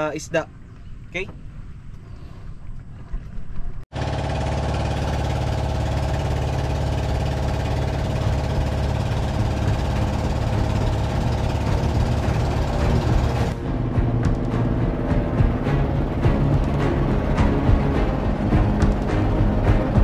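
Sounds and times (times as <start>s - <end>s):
boat diesel engine running: 3.7s - 20.0s.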